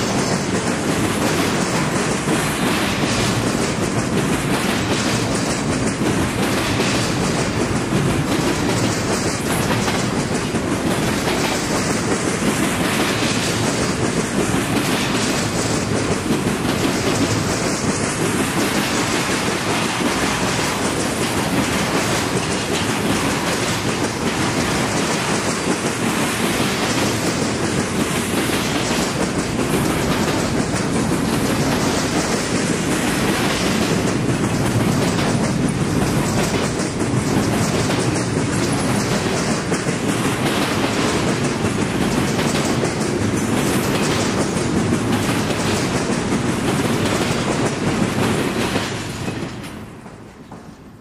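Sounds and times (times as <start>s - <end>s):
freight train rumbling past: 0.0s - 51.0s
wheels clattering over rails: 0.0s - 51.0s.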